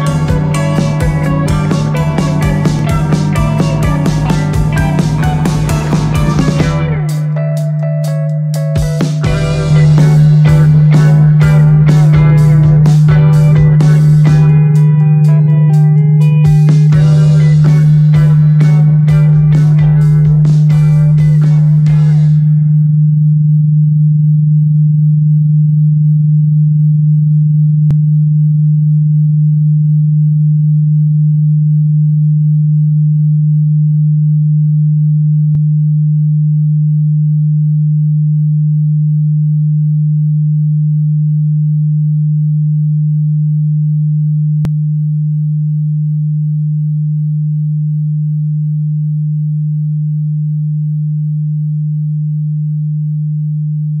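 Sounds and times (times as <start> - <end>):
low pure electronic tone: 0.0 - 54.0.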